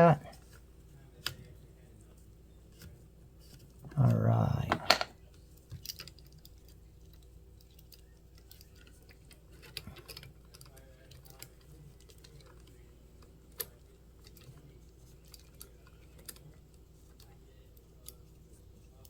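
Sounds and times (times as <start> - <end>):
small parts clicking and tapping: 3.5 - 19.0.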